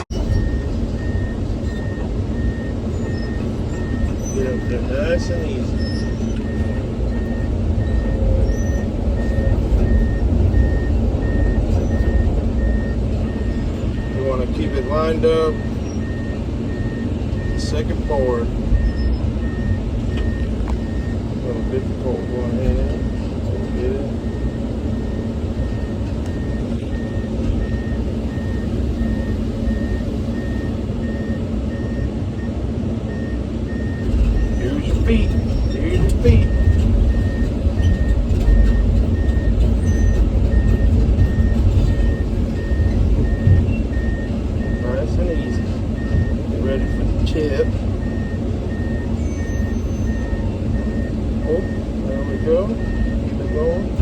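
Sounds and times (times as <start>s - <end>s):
excavator diesel engine under load: 0.0s - 54.0s
reversing alarm beeping: 0.0s - 54.0s.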